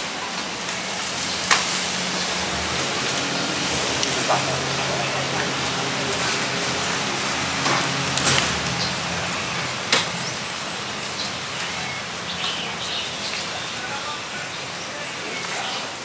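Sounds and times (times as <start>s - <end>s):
steady hiss of background noise: 0.0s - 16.0s.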